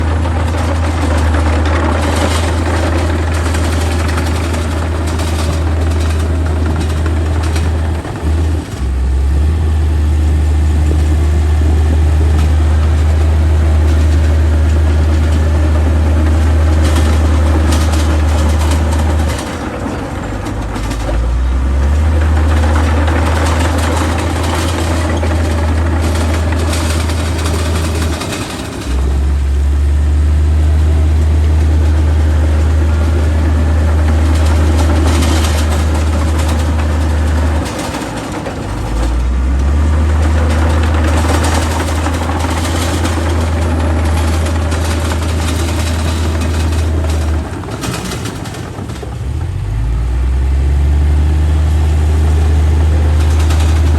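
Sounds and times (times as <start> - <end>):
heavy diesel engine droning: 0.0 - 53.9.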